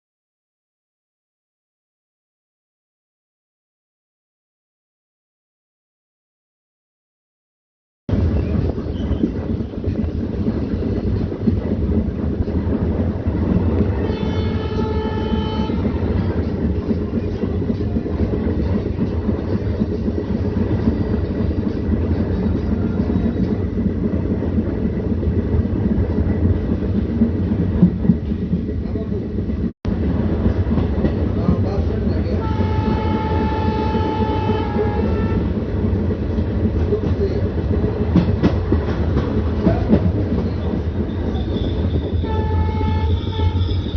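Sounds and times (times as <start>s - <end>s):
diesel train rumbling: 8.1s - 43.9s.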